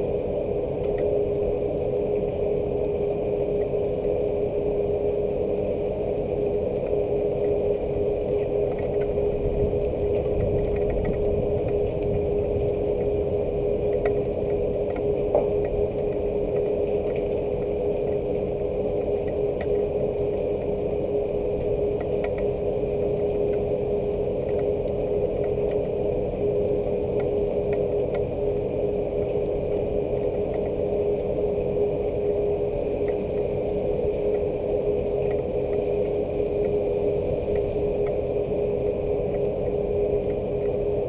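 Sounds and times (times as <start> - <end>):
light ticks of rain: 0.0 - 41.0
steady machine hum: 0.0 - 41.0.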